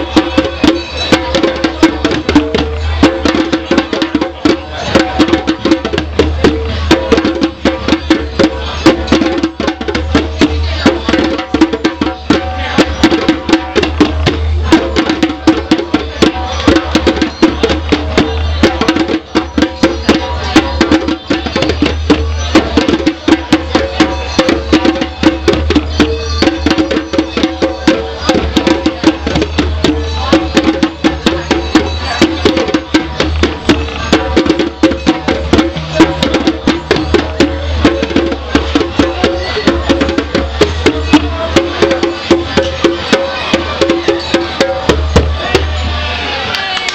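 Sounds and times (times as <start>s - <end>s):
djembes played by hand: 0.0s - 46.0s.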